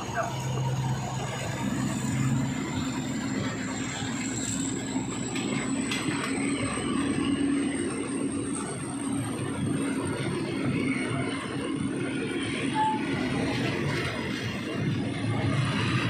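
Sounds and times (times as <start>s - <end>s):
high whine rising in pitch: 0.0s - 16.0s
train wheels rumbling on rail: 0.0s - 16.0s.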